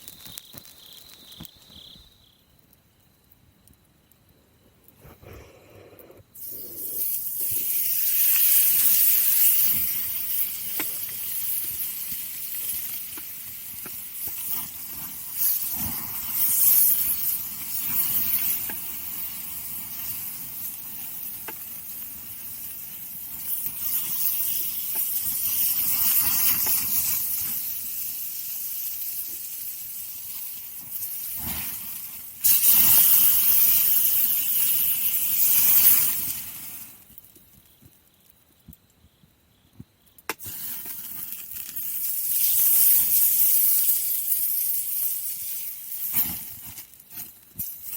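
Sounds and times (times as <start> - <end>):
meat sizzling on a grill: 0.0 - 2.3, 6.4 - 37.2, 40.4 - 47.9
faint fire crackles: 0.0 - 47.9.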